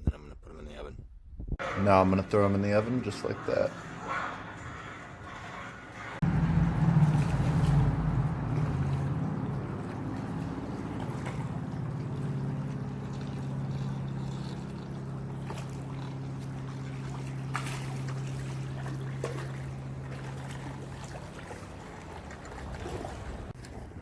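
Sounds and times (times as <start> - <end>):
low machine hum: 2.0 - 23.6.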